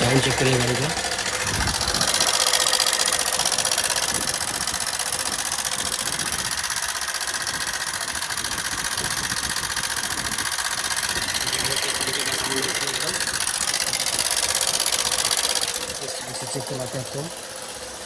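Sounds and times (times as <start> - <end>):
motorcycle engine running: 0.0 - 18.0
valve train rattling: 0.0 - 18.0.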